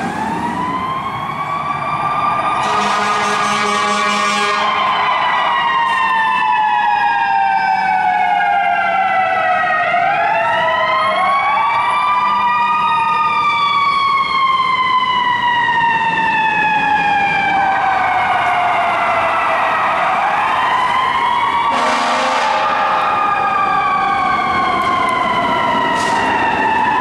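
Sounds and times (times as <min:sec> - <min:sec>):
fire truck siren wailing: 0:00.0 - 0:27.0.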